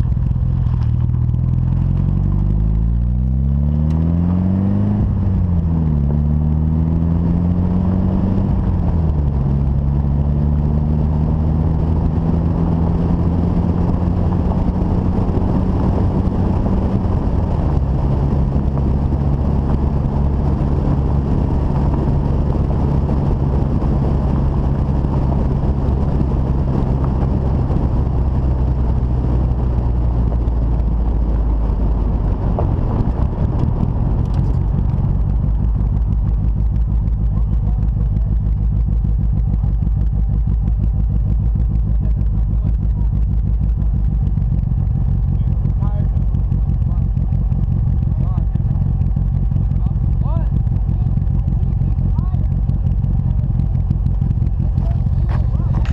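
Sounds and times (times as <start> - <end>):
road and wind noise: 0.0 - 55.9
turbocharged car engine accelerating: 0.0 - 55.9.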